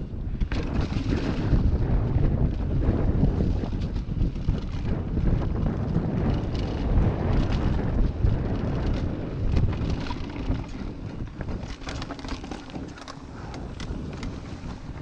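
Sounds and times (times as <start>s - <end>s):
bike clicks and rattles: 0.0s - 15.0s
bike tyre noise: 0.0s - 15.0s
wind rumbling on microphone: 0.0s - 15.0s.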